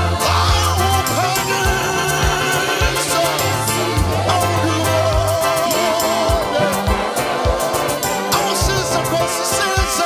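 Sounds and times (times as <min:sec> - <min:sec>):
bass notes: 0:00.0 - 0:09.6
regular drum beat: 0:00.0 - 0:10.0.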